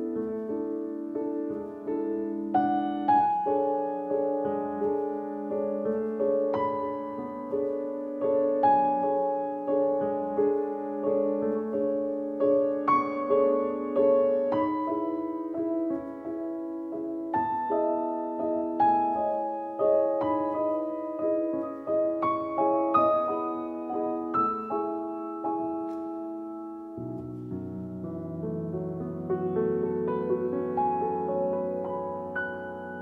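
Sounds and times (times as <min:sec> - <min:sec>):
slow piano piece: 0:00.0 - 0:33.0.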